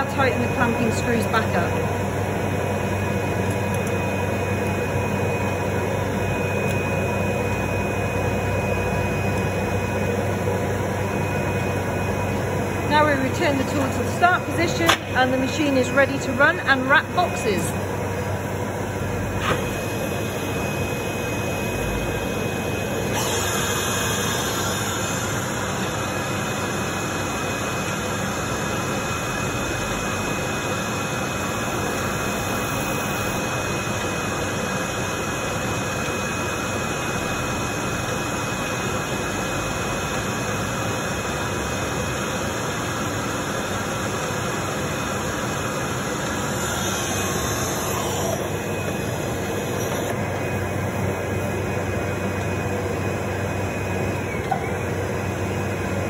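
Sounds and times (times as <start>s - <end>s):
workshop machinery whirring: 0.0s - 56.0s.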